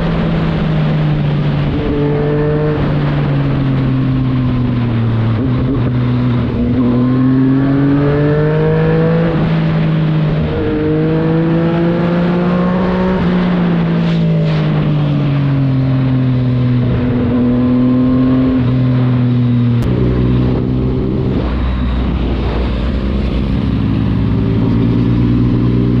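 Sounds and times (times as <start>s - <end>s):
deep rumbling engine: 0.0s - 26.0s
motorcycle engine revving: 0.0s - 26.0s.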